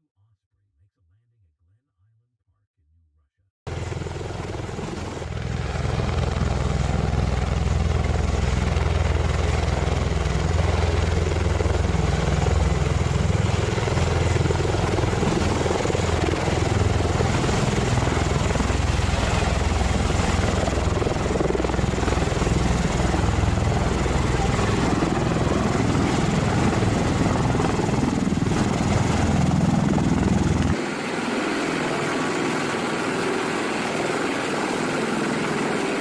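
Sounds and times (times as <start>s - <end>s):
helicopter rotors and turbines: 3.7s - 36.0s.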